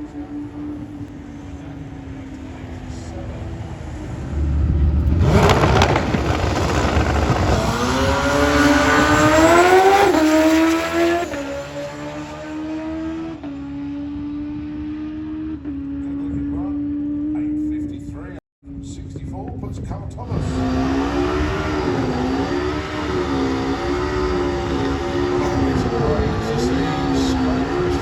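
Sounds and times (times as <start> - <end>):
motorcycle engine at full throttle: 0.0 - 28.0.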